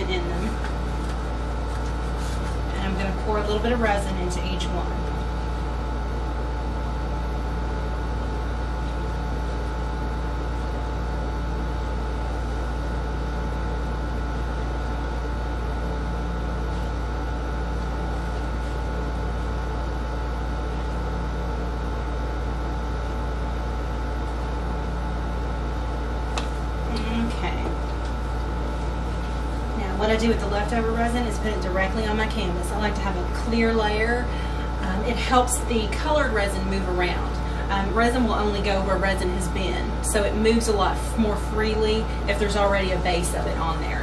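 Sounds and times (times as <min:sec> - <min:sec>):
background hum with hiss: 0:00.0 - 0:44.0.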